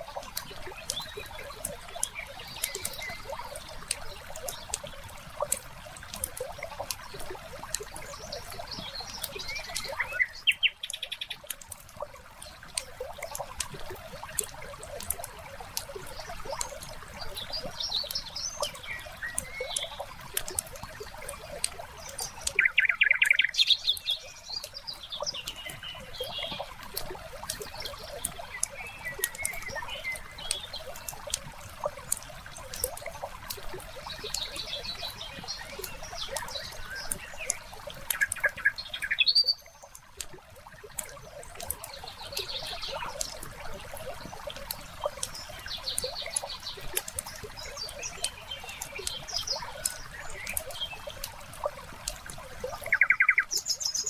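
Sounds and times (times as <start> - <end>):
small birds chirping: 0.0 - 54.0
water trickling: 0.0 - 54.0.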